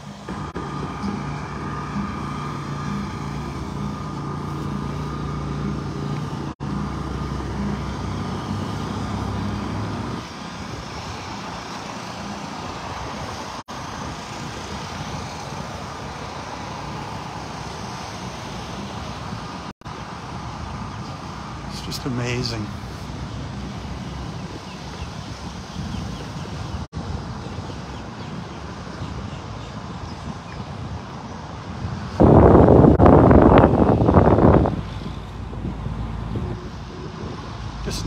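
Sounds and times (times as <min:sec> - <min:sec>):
engine running with low hum: 0:00.0 - 0:38.0
outdoor rush: 0:00.0 - 0:38.0.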